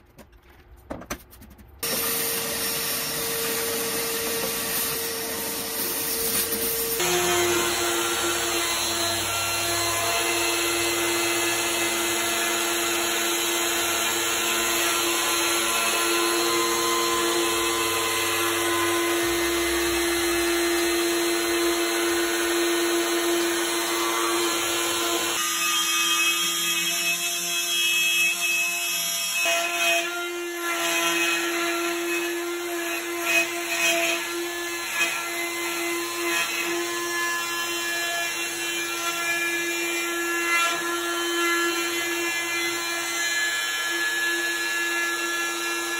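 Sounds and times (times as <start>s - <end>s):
router cutting wood: 1.8s - 45.9s.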